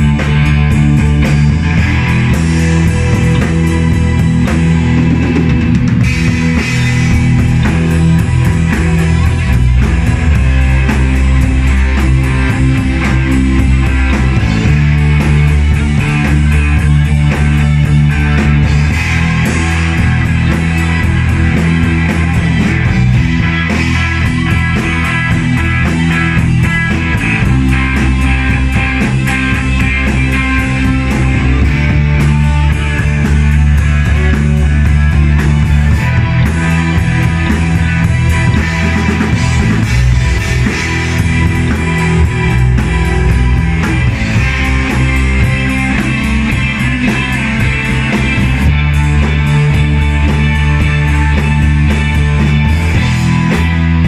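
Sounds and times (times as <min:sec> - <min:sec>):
drum kit beat: 0:00.0 - 0:54.0
electric bass: 0:00.0 - 0:54.0
electric guitars: 0:00.0 - 0:54.0.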